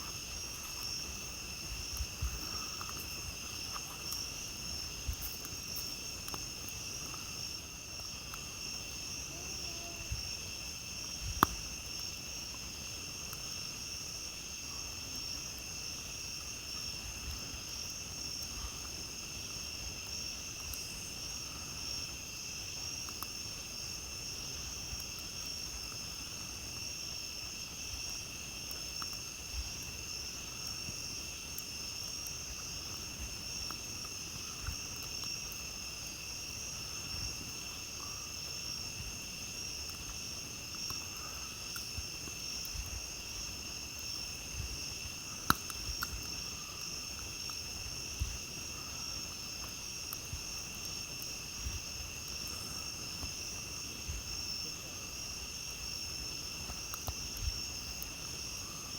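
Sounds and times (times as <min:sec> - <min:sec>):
campfire crackling: 0:00.0 - 0:58.9
night insects trilling: 0:00.0 - 0:58.9.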